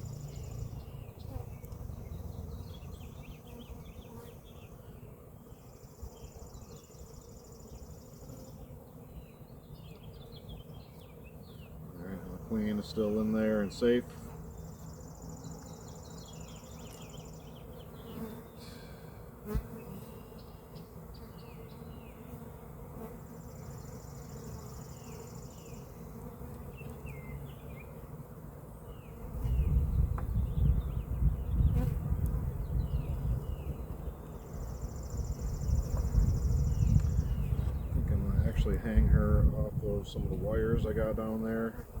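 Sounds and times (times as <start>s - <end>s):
honeybees buzzing: 0.0s - 42.0s.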